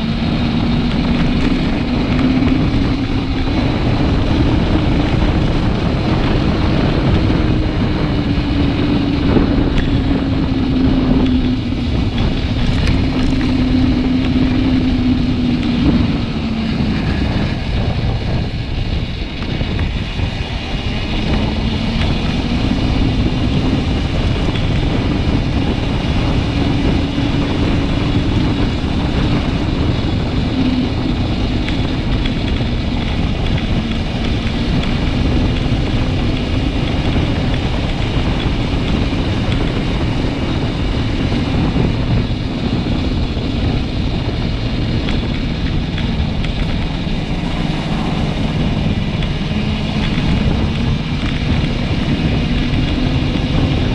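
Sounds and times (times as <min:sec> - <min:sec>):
motorcycle engine drone: 0:00.0 - 0:53.9
wind rushing over microphone: 0:00.0 - 0:53.9.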